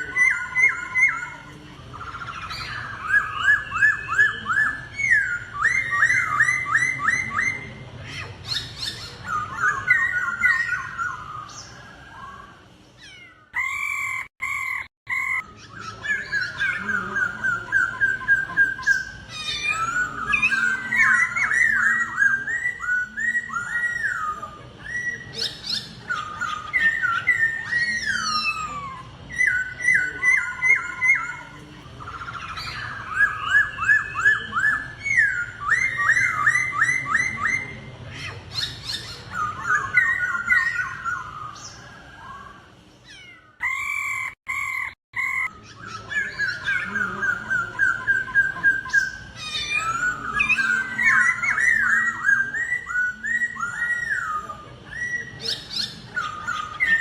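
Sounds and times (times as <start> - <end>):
bird singing whistled song: 0.0 - 7.8, 8.5 - 12.5, 13.6 - 37.8, 43.6 - 57.0.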